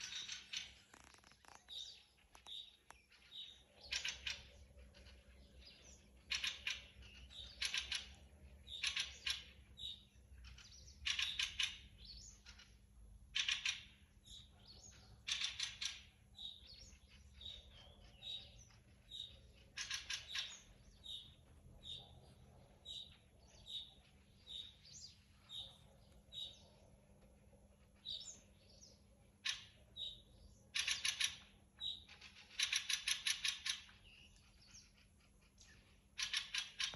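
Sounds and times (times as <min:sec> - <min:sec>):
harsh chattering bird calls: 0:00.0 - 0:36.9.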